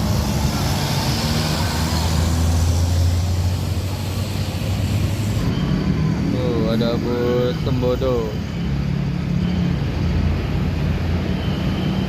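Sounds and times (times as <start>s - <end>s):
bus diesel engine: 0.0s - 12.0s
road traffic noise: 0.0s - 12.0s.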